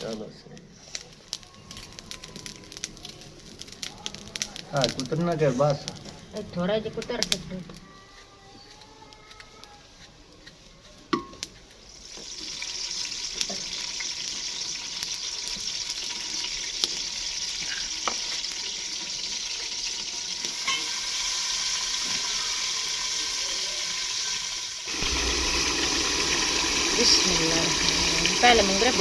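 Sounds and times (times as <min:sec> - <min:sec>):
food sizzling in hot oil: 0:00.0 - 0:07.8, 0:11.4 - 0:29.0.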